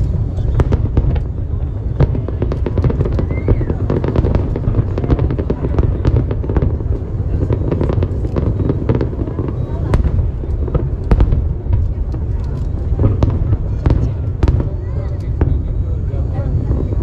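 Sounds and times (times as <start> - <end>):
fireworks bangs and crackles: 0.0 - 17.0
low rumble of booms: 0.0 - 17.0.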